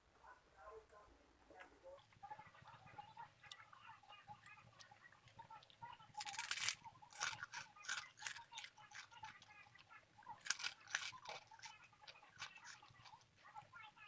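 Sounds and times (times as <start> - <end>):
crunchy food being chewed: 2.0 - 14.0.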